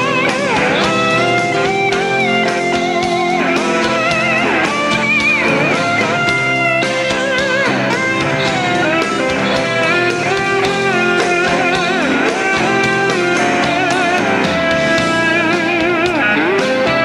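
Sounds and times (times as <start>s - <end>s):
band with drums: 0.0s - 17.0s
electric slide guitar solo: 0.0s - 17.0s.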